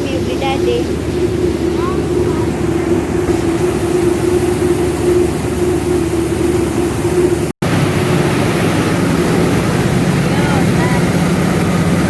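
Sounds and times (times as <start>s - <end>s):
milling machinery rumbling: 0.0s - 12.0s.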